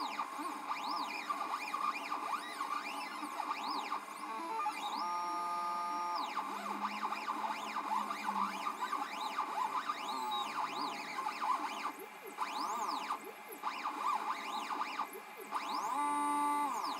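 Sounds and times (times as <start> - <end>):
stepper motors whining: 0.0 - 16.9.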